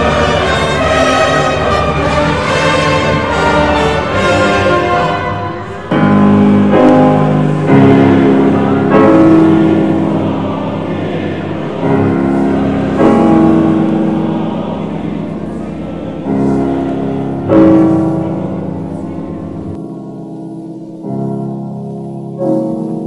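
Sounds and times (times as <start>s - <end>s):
slow sustained music chords: 0.0s - 23.0s.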